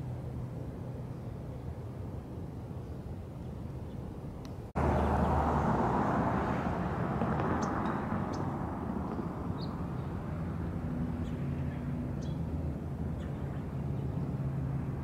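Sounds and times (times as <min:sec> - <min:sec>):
steady outdoor rushing noise: 0:00.0 - 0:15.0.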